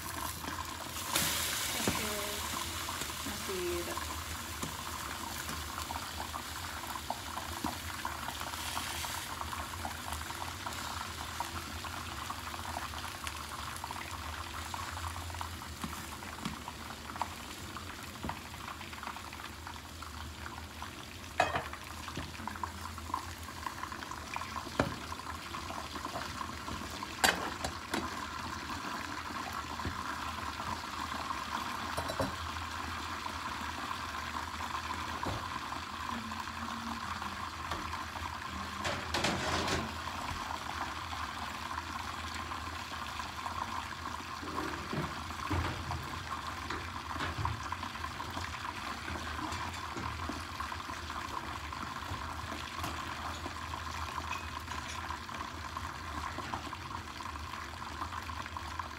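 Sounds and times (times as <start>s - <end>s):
omelette sizzling in a pan: 0.0s - 58.9s.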